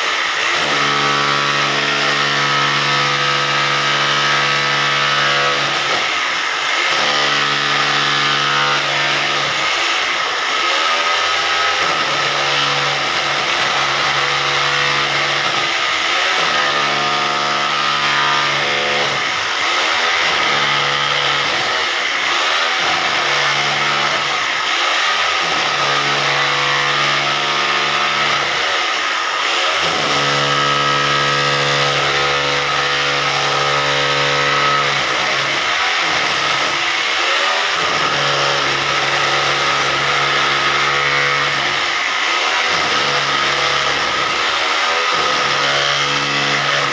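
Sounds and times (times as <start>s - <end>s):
hammer drill running: 0.0s - 46.9s.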